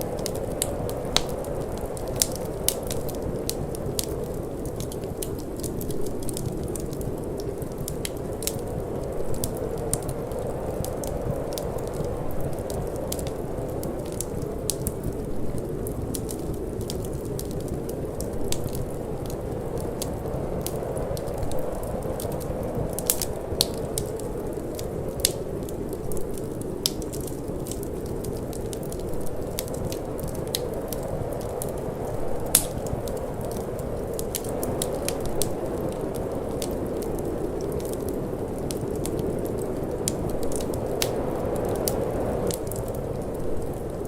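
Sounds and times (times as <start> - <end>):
low rush of wind: 0.0 - 44.0
wood fire crackling: 0.0 - 44.0.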